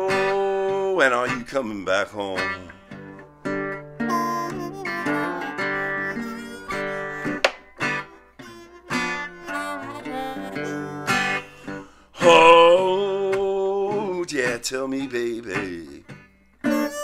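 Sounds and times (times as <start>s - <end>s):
slide blues guitar: 0.0s - 17.0s.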